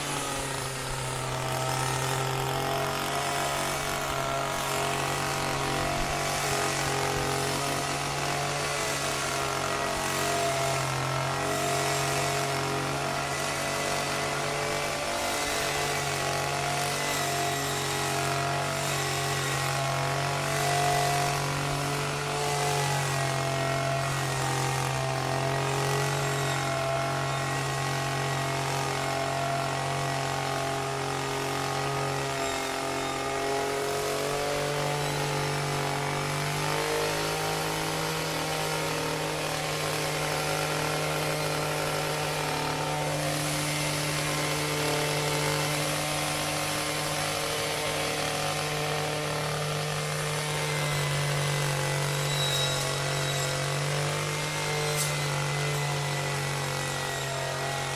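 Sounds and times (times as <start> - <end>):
chainsaw running: 0.0 - 57.9.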